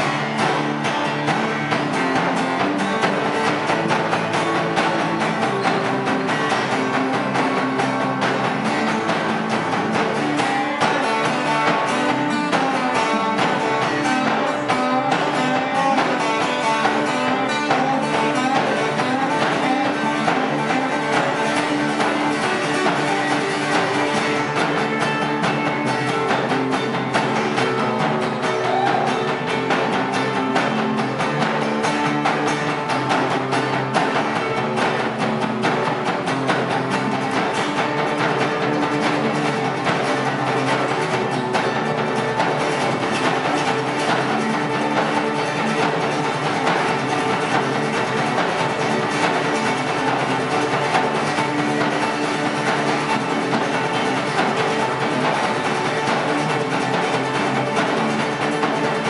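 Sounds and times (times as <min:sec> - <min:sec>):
acoustic guitar strummed: 0:00.0 - 0:59.0
electric bass: 0:00.0 - 0:59.0.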